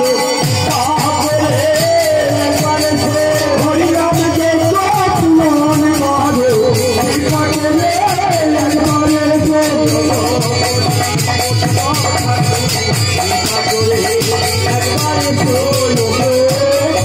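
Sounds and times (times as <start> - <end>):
barrel drum and percussion: 0.0 - 17.0
harmonium: 0.0 - 17.0
men singing together: 0.0 - 17.0.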